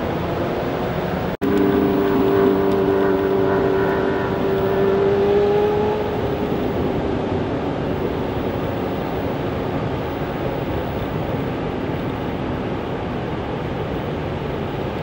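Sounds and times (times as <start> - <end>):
constant rushing noise: 0.0 - 15.0
vehicle engine humming: 0.0 - 15.0.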